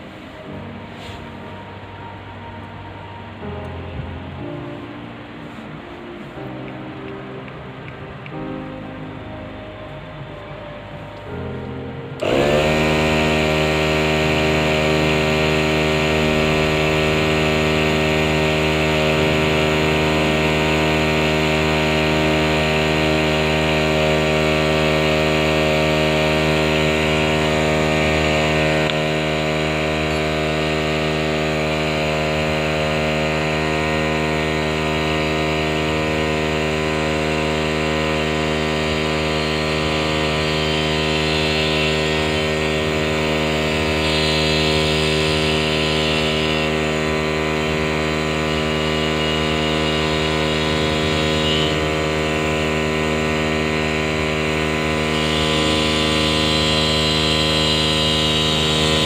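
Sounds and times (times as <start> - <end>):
motor running steadily: 0.0 - 7.1, 7.8 - 59.0.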